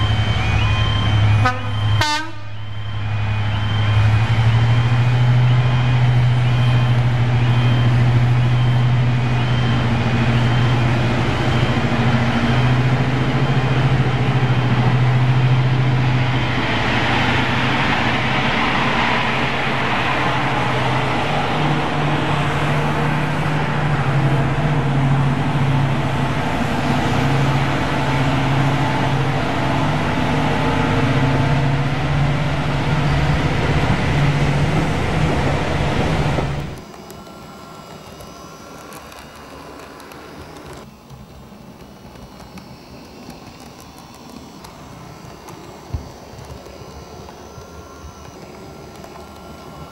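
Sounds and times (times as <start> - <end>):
diesel locomotive engine droning: 0.0 - 49.9.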